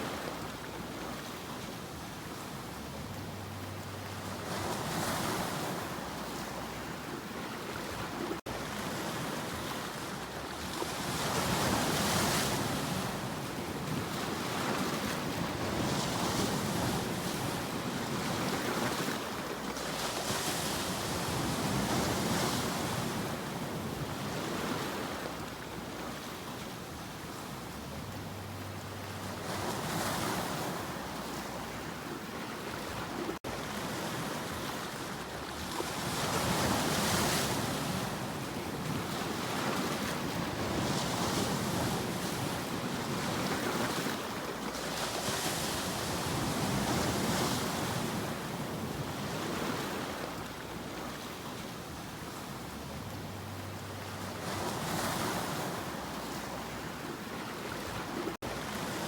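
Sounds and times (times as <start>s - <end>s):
sea waves breaking: 0.0s - 59.0s.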